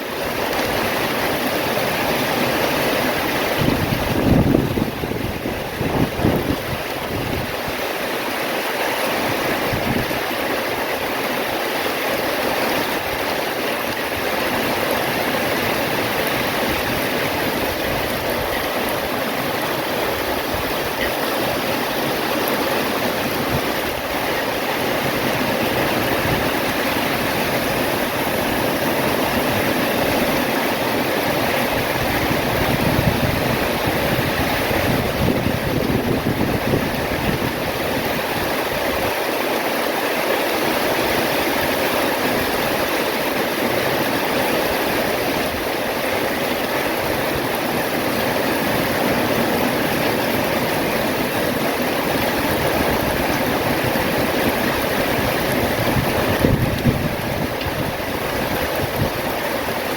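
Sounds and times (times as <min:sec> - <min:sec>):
heavy rain pouring: 0:00.0 - 0:59.9
wind gusts buffeting microphone: 0:00.0 - 0:59.9.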